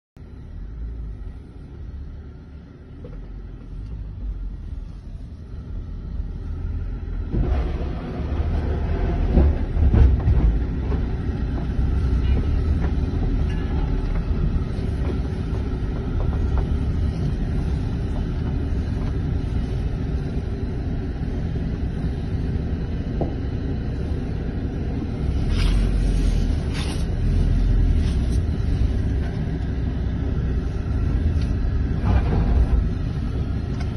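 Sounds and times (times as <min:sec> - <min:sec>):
car interior rumble: 0:00.2 - 0:33.9.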